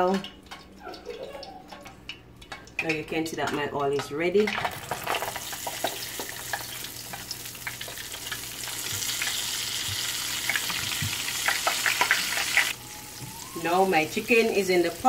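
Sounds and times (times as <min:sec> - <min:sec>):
chicken frying in hot oil: 0:00.0 - 0:03.0, 0:04.2 - 0:15.0
oil popping and clicking: 0:00.0 - 0:13.4.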